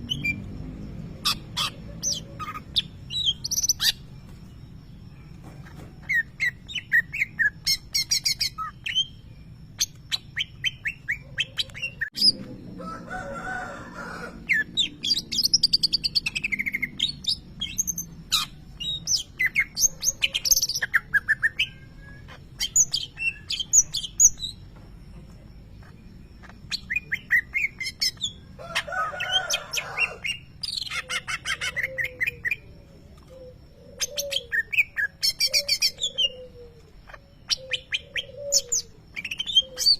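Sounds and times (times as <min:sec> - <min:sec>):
bird chirping and trilling: 0:00.0 - 0:13.6, 0:14.2 - 0:24.6, 0:25.6 - 0:39.9.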